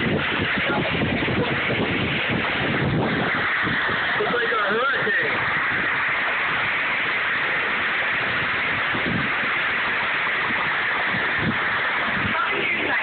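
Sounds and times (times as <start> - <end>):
hailstones pelting down: 0.0 - 13.0.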